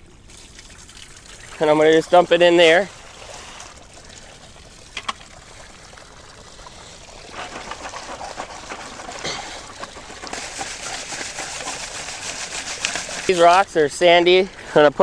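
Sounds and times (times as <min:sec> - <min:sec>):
water pouring and trickling: 0:00.0 - 0:15.0.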